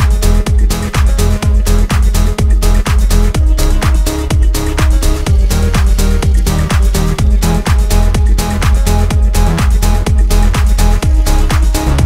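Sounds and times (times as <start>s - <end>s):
electronic dance music: 0.0s - 12.0s
steady kick drum: 0.0s - 12.0s.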